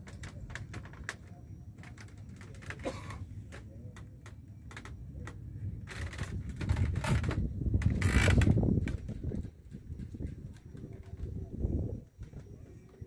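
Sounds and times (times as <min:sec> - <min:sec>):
light clicks and knocks: 0:00.0 - 0:11.4
steady low rumble: 0:00.0 - 0:13.0.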